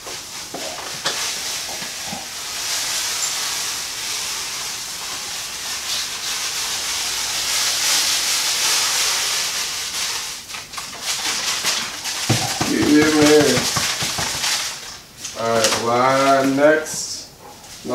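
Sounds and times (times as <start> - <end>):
grain pouring from paper bag: 1.0 - 15.5.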